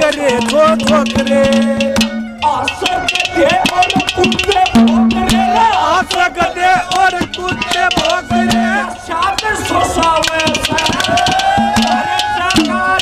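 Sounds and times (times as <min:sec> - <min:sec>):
man singing into a microphone: 0:00.0 - 0:13.0
rhythmic percussion: 0:00.0 - 0:13.0.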